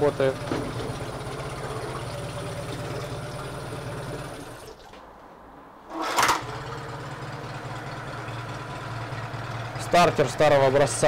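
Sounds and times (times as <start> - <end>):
outboard engine running: 0.0 - 4.8, 6.2 - 11.0.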